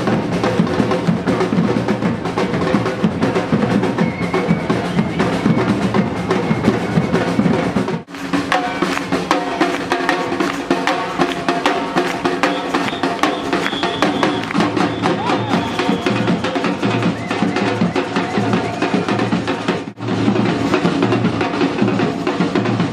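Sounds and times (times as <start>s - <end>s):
music with drums: 0.0s - 22.9s.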